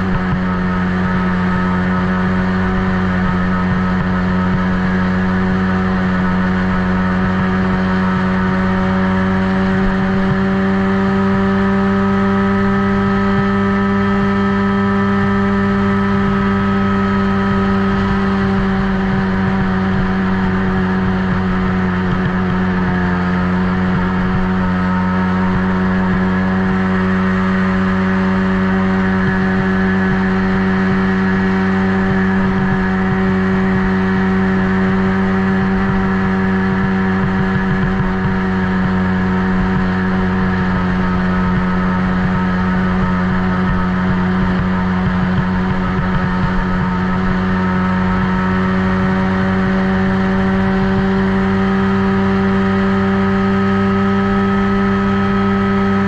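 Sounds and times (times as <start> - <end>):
atv engine running hard: 0.0 - 56.0.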